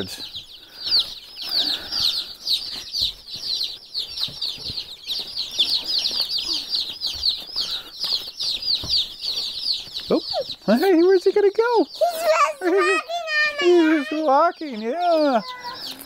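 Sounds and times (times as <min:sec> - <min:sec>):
chicks peeping: 0:00.0 - 0:16.0
rustling in wood shavings: 0:00.0 - 0:16.0.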